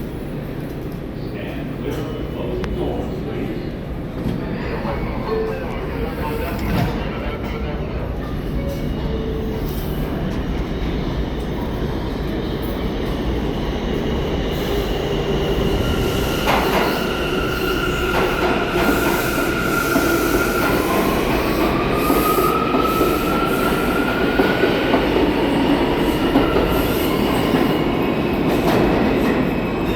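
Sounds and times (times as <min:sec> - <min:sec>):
subway train rumbling on track: 0:00.0 - 0:29.9.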